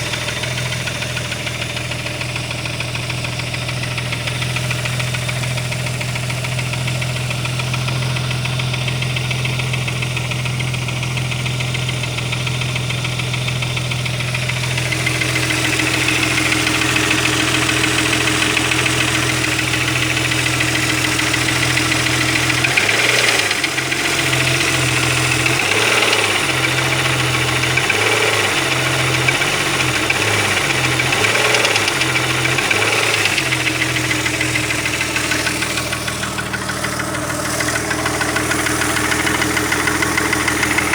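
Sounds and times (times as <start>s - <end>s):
car engine running with knock: 0.0s - 40.9s.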